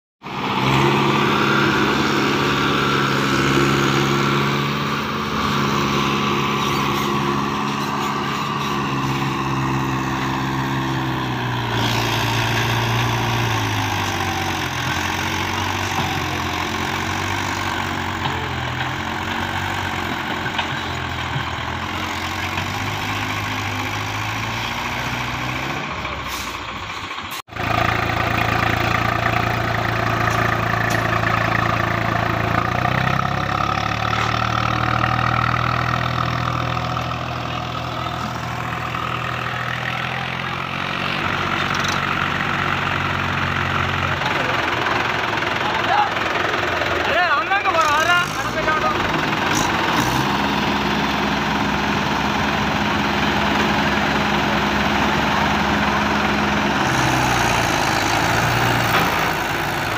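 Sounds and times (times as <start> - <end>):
another tractor engine running: 0.2 - 59.9
tractor engine straining under load: 0.2 - 59.9.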